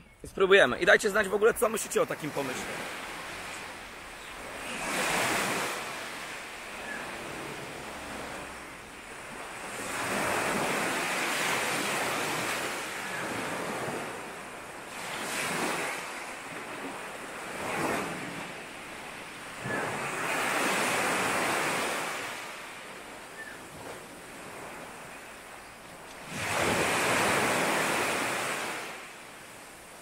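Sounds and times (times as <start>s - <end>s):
sea waves breaking on beach: 1.2s - 30.0s.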